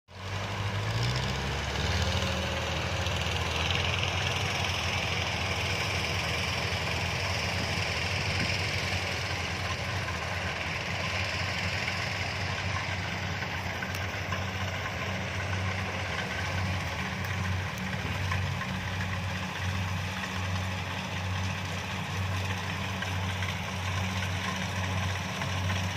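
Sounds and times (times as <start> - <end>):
diesel engine droning: 0.1 - 25.9.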